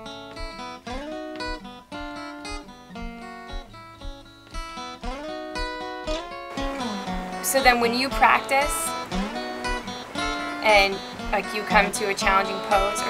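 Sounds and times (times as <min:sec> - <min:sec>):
acoustic guitar plucking and strumming: 0:00.0 - 0:13.0.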